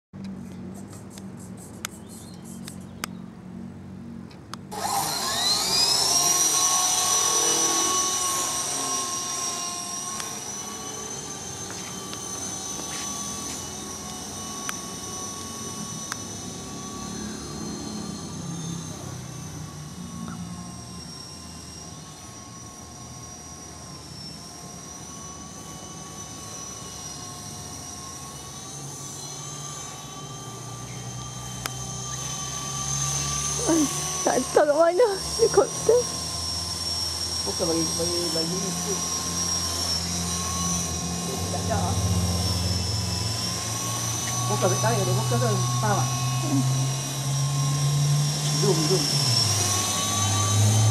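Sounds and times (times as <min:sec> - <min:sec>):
rc helicopter rotor whine: 0:00.2 - 0:50.9.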